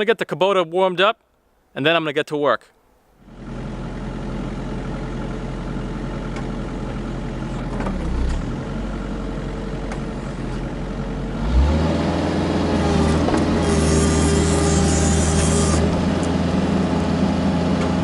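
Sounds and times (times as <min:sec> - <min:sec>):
excavator diesel engine running: 0:03.2 - 0:18.0.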